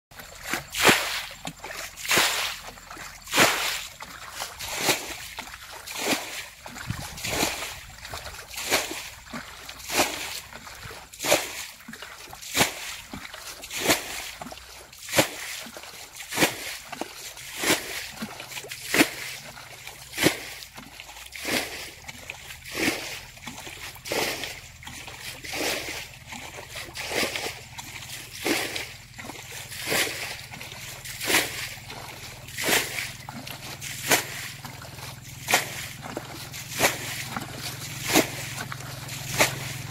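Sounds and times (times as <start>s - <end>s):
water splashing from bailing: 0.1s - 39.9s.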